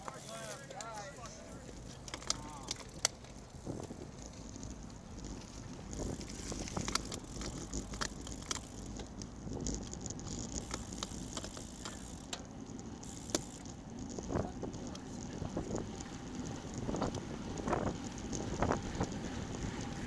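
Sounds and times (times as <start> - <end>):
bicycle clicks and rattles: 0.0 - 20.0
wind and road noise: 0.0 - 20.0.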